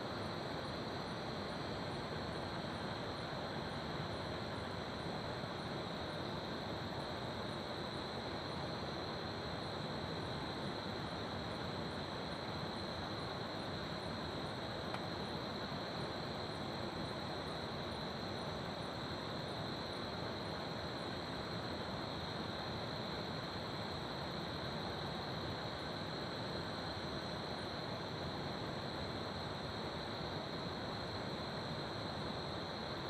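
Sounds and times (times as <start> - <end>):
crickets trilling: 0.1 - 33.0.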